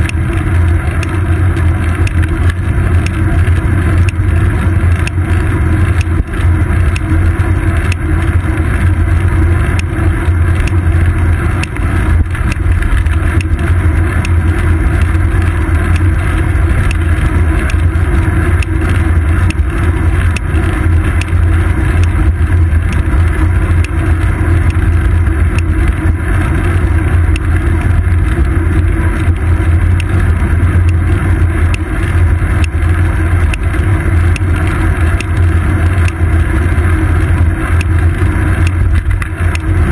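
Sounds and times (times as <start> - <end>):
bike ticks and knocks: 0.0 - 39.9
wind and road rumble: 0.0 - 39.9.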